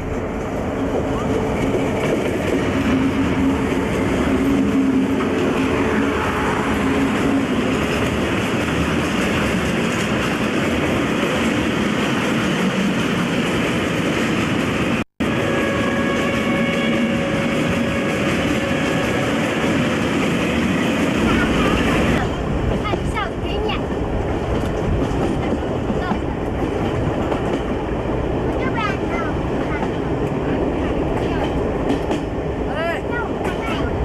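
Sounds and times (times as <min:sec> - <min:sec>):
rumble and clatter of wagons: 0:00.0 - 0:05.7, 0:06.8 - 0:15.0, 0:17.5 - 0:34.0
diesel locomotive engines humming: 0:00.0 - 0:34.0.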